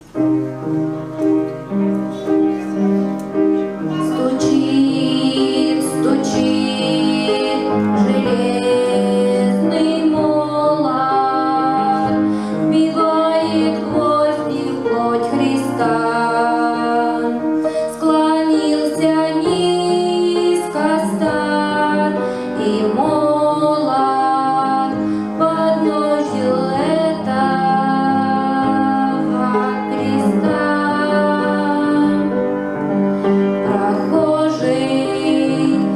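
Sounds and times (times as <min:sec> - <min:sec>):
keyboard playing chords: 0:00.0 - 0:35.9
piano accompaniment: 0:00.0 - 0:35.9
woman singing: 0:03.9 - 0:32.4, 0:33.6 - 0:35.9.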